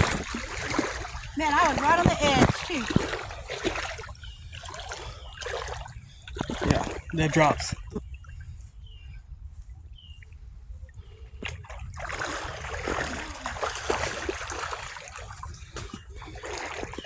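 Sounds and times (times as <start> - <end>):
person wading through splashing water: 0.0 - 8.4, 11.4 - 17.0.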